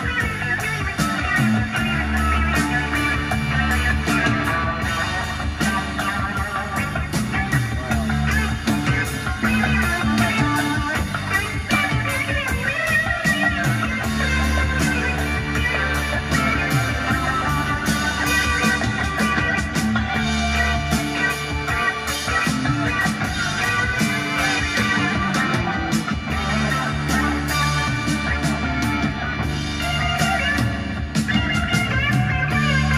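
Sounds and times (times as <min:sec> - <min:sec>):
guitar rock music: 0:00.0 - 0:32.9.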